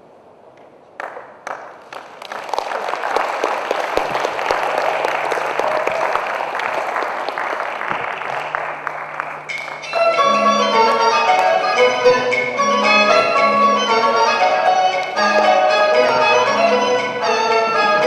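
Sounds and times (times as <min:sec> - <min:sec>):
audience applauding: 0:01.0 - 0:16.7.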